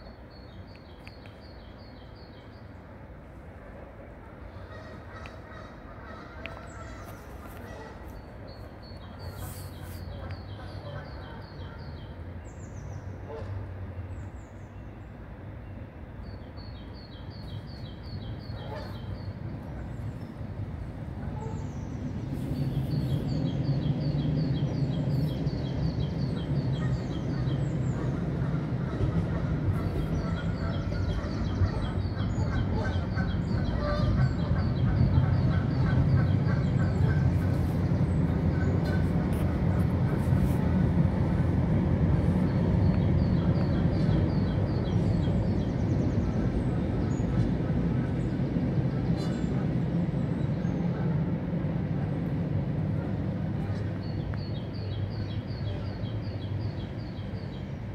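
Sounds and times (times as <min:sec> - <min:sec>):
tram rumble: 0:00.0 - 0:57.9.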